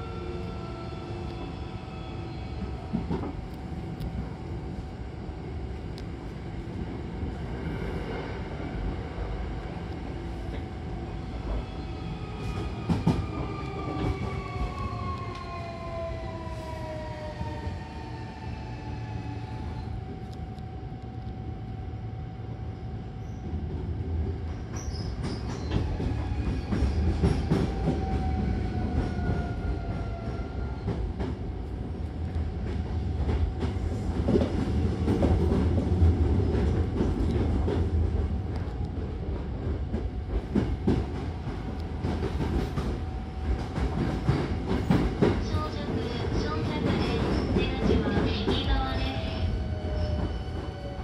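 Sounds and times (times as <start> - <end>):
train rolling rumble: 0.0 - 51.0.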